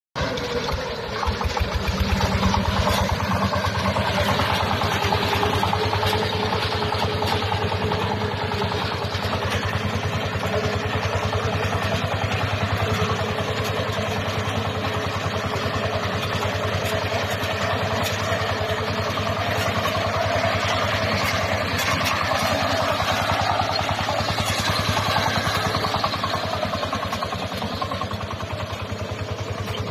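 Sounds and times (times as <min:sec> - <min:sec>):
harvester engine running: 0:00.2 - 0:29.9.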